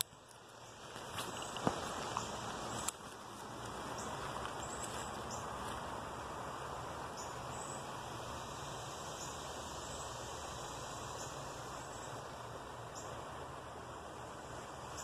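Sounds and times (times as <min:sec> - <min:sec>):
outdoor ambient hiss: 0:00.0 - 0:15.0.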